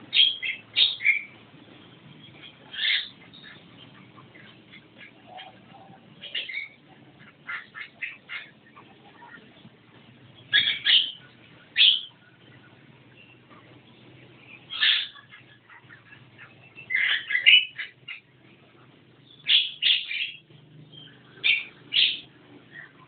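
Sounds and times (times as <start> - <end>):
myna bird calling: 0.0 - 23.0.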